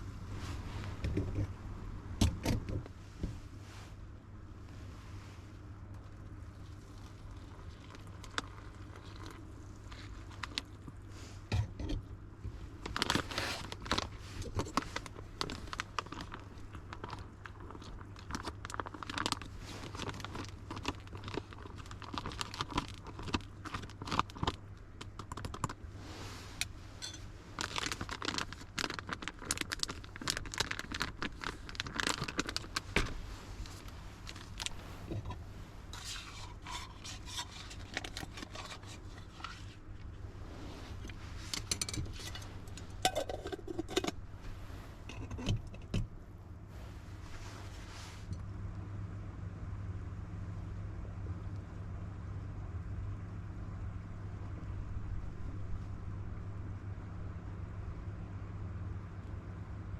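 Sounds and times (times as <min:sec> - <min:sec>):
steady low rumble: 0:00.0 - 0:23.6, 0:25.7 - 0:59.9
rustling and scraping of handling: 0:00.0 - 0:48.5.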